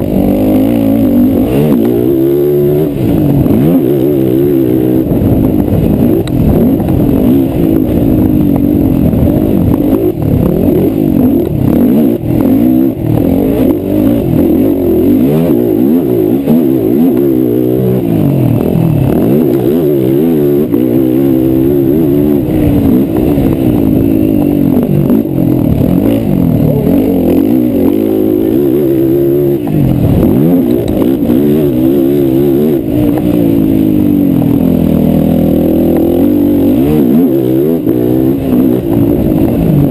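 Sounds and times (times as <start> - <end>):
quad engines revving hard: 0.0 - 39.9.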